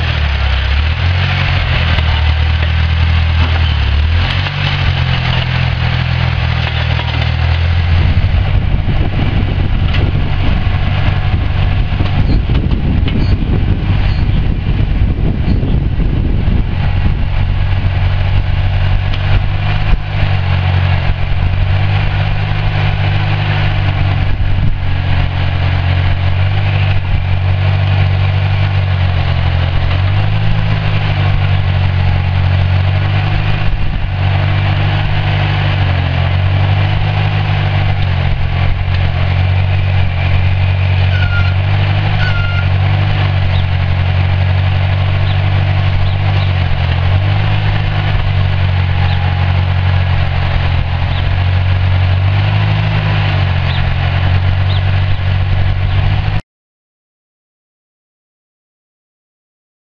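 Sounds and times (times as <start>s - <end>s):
tractor engine running: 0.0s - 56.4s.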